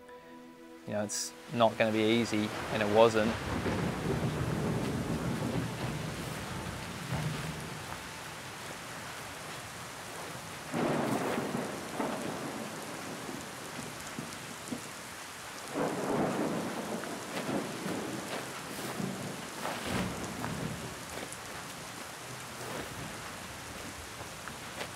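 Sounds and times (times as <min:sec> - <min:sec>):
steady rain falling: 0:00.9 - 0:24.9.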